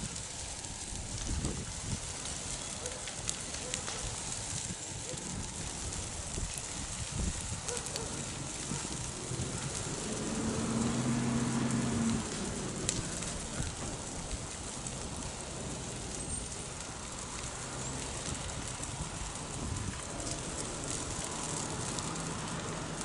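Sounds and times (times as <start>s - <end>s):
brush fire crackling: 0.0s - 23.0s
sharp pops and snaps: 0.1s - 23.0s.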